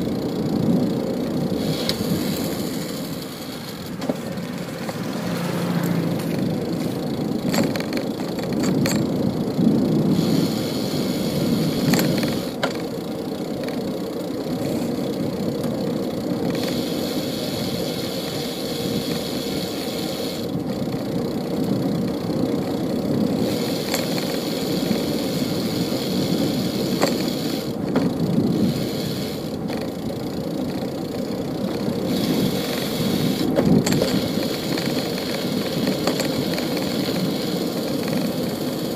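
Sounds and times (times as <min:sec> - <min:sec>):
sharp clicks and rattles: 0:00.0 - 0:10.6, 0:11.3 - 0:17.0, 0:20.5 - 0:38.9
street traffic rumble: 0:00.0 - 0:38.9.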